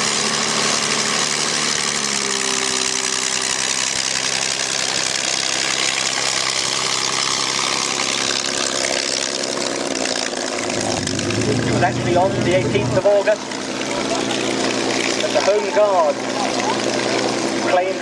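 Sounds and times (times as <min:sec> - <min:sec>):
propeller aircraft engine running: 0:00.0 - 0:18.0.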